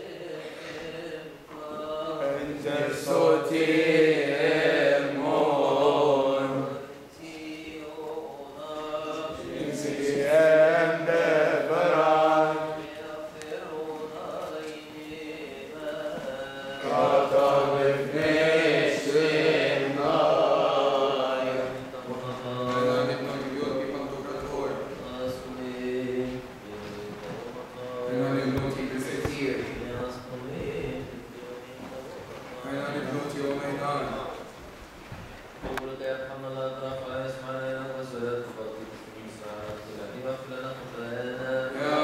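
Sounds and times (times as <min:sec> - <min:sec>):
voices chanting a hymn: 0:00.0 - 0:34.8, 0:35.5 - 0:42.0.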